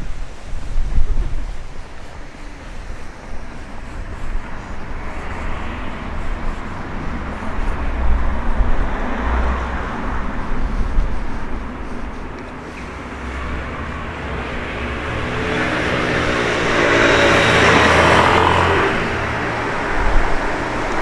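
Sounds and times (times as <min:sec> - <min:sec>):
low traffic rumble: 0:00.0 - 0:21.0
vehicle passing by: 0:01.4 - 0:21.0.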